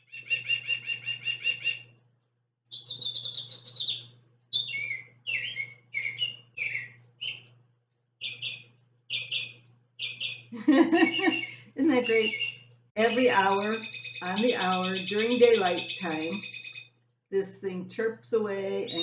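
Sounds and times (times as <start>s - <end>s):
recorded bird songs from speaker: 0.0s - 1.9s, 2.7s - 7.5s, 8.2s - 19.0s.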